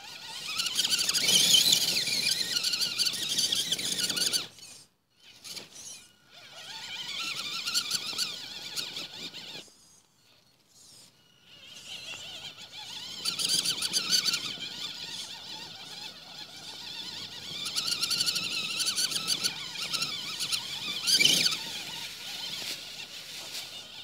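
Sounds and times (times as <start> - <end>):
rc truck motor whining: 0.0 - 23.1.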